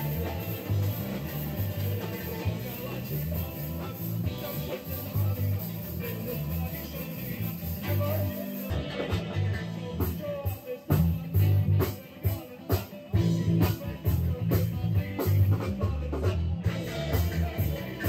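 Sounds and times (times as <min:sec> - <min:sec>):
bass: 0:00.0 - 0:18.0
drum kit beat: 0:00.0 - 0:18.0
guitar: 0:00.0 - 0:18.0
person singing: 0:00.0 - 0:18.0.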